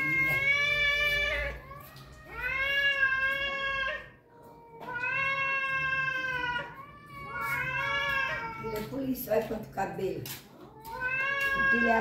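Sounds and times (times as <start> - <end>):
cats yowling: 0.0 - 8.9, 10.6 - 12.0.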